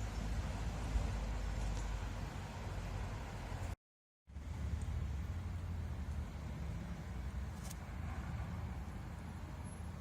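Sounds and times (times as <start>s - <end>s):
steady low rumble: 0.3s - 10.0s.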